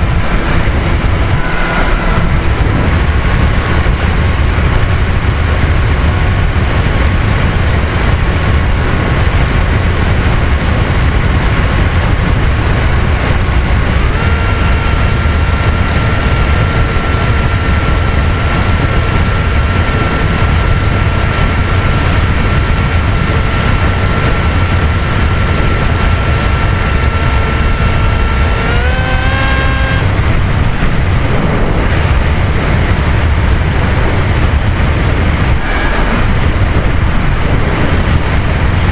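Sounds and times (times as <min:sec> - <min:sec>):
electric motor and propeller whining: 0:00.0 - 0:38.9
wind rumble on microphone: 0:00.0 - 0:38.9.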